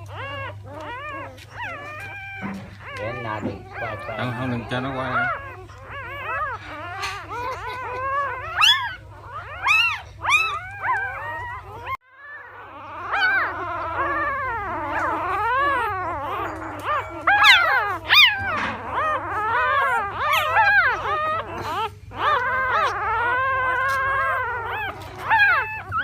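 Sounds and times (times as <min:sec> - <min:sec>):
puppies whining and yelping: 0:00.0 - 0:26.0.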